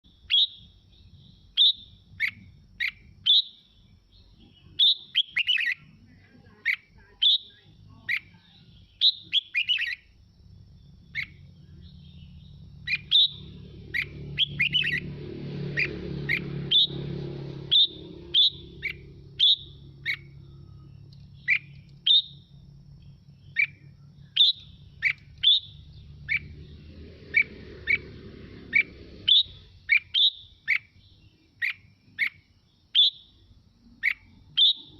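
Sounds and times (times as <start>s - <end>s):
bird singing whistled phrases: 0.2s - 10.1s, 10.8s - 15.1s, 15.8s - 17.0s, 17.7s - 22.6s, 23.4s - 26.6s, 28.7s - 33.4s, 34.0s - 34.9s.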